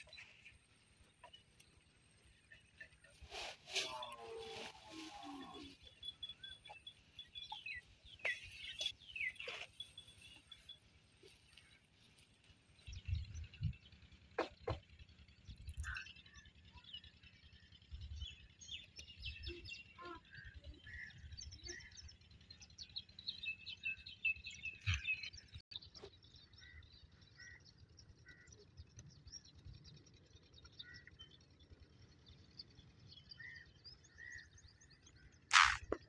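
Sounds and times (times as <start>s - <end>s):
small birds chirping: 0.0s - 14.7s, 15.4s - 36.0s.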